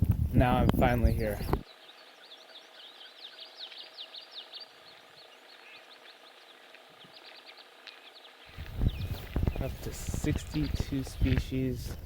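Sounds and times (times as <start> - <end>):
songbirds singing: 0.9 - 12.0.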